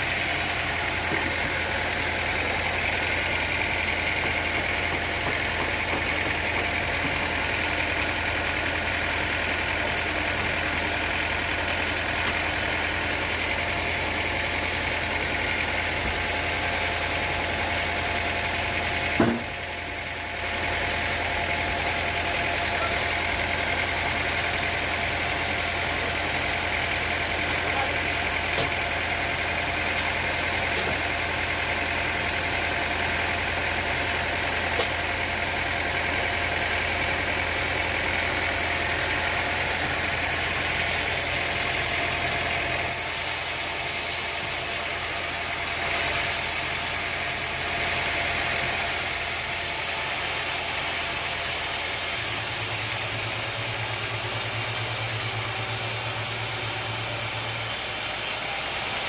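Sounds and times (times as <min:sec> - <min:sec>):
sawmill machinery hum: 0:00.0 - 0:59.0.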